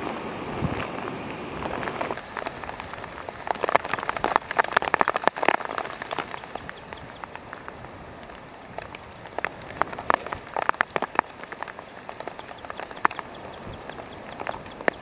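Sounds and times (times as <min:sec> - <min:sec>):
rain dripping: 0:00.0 - 0:15.0.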